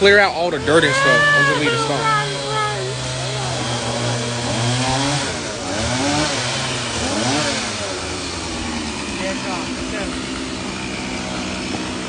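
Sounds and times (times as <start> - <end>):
chainsaw revving through wood: 0.0 - 12.0.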